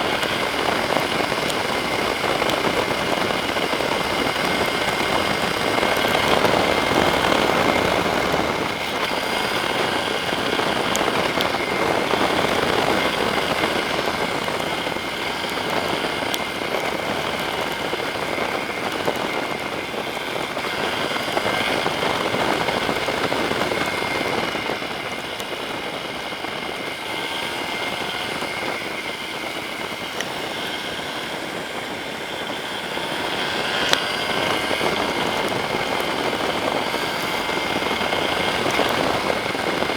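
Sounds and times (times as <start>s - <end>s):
motorcycle engine running: 0.0s - 39.9s
rain noise: 0.0s - 39.9s.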